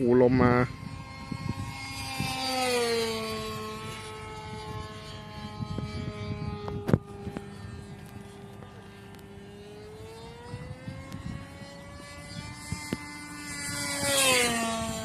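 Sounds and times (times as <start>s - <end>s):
model plane engine whine: 0.0s - 15.0s.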